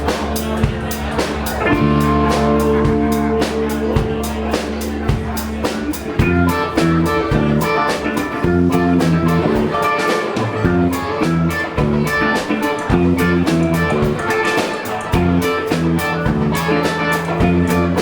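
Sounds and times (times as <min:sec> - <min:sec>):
bass line: 0:00.0 - 0:18.0
blues guitar: 0:00.0 - 0:18.0
drum kit beat: 0:00.0 - 0:18.0.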